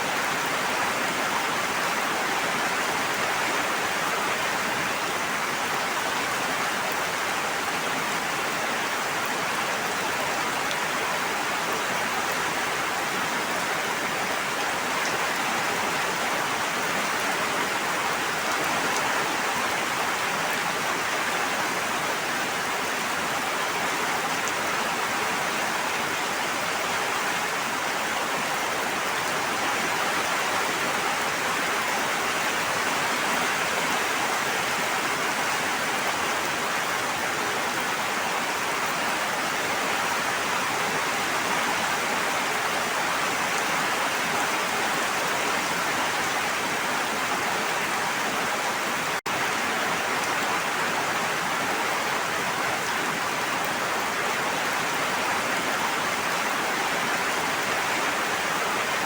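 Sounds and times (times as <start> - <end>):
rushing water noise: 0.0 - 59.0.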